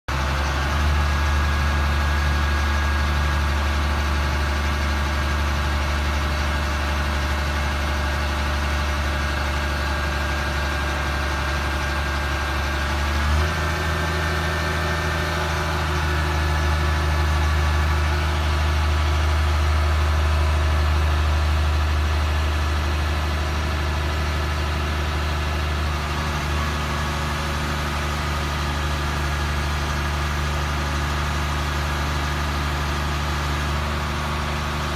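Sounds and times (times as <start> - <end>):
truck engine idling: 0.1 - 34.9.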